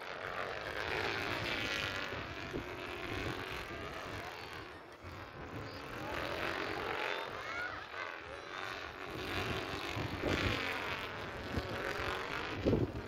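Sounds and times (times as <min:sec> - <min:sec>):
stunt kites droning: 0:00.0 - 0:13.0.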